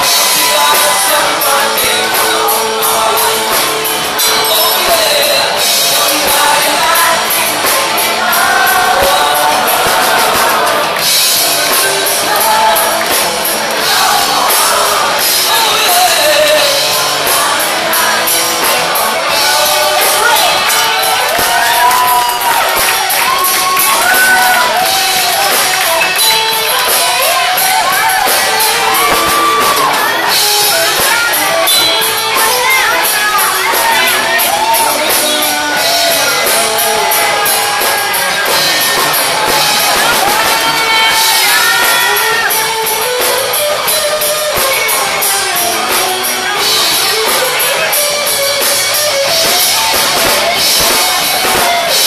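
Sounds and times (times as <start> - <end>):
person singing: 0.0 - 52.0
rock band playing loudly: 0.0 - 52.0.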